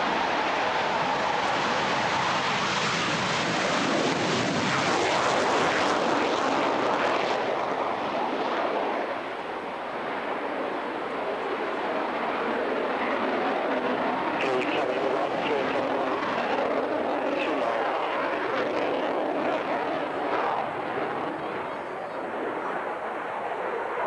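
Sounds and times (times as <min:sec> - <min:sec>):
jet engine roar taking off: 0:00.0 - 0:23.3.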